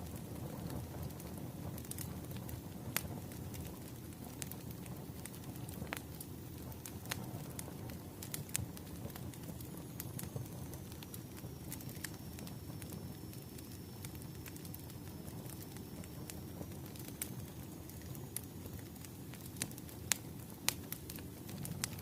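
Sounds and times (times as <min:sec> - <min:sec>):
bonfire crackling and popping: 0:00.0 - 0:22.0
low rumble of burning: 0:00.0 - 0:22.0.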